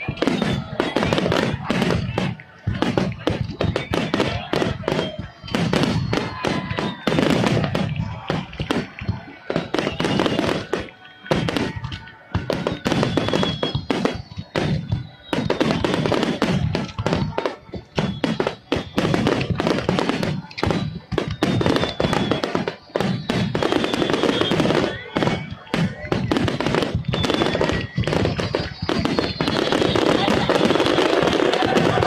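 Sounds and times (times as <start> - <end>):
fireworks booms and cracks: 0.0 - 32.0.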